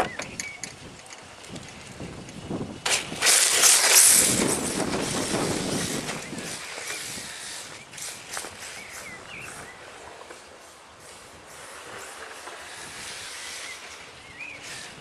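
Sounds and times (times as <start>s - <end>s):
rc car passing: 0.0s - 15.0s.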